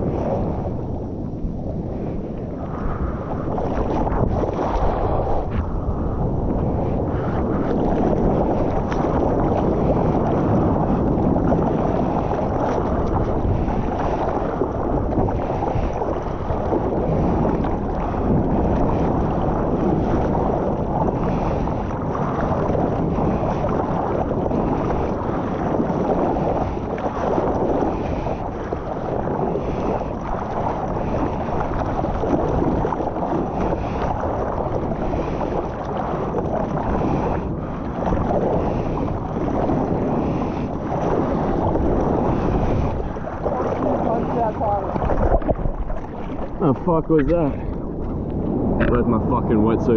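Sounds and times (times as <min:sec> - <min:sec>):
ocean water rushing: 0:00.0 - 0:49.9
wind noise on microphone: 0:00.0 - 0:49.9.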